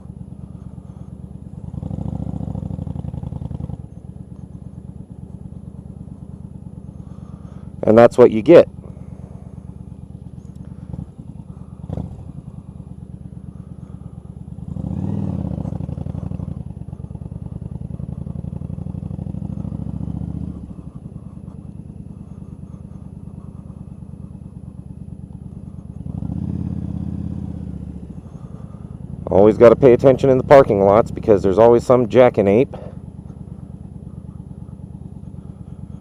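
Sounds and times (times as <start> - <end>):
motorcycle engine and exhaust: 0.0 - 36.0.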